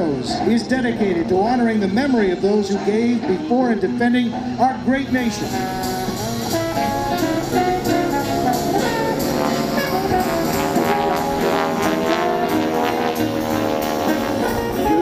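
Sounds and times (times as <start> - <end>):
brass instrumental music: 2.7 - 15.0.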